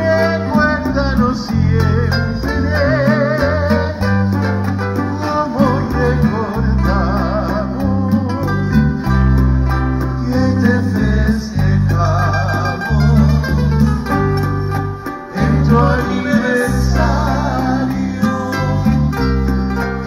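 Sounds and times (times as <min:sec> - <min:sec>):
person singing: 0:00.0 - 0:09.1, 0:09.9 - 0:20.0
acoustic guitars playing: 0:00.0 - 0:20.0
electric bass walking: 0:00.0 - 0:20.0.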